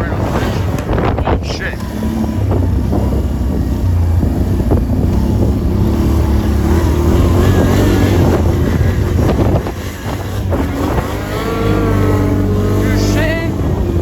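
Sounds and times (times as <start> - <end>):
dirt bike engine running: 0.0 - 14.0
wind buffeting microphone: 0.0 - 14.0.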